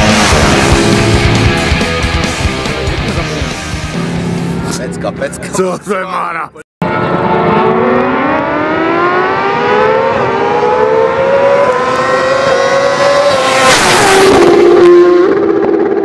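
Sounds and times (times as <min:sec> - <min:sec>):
motorcycle accelerating and passing: 0:00.0 - 0:05.2, 0:06.8 - 0:16.0.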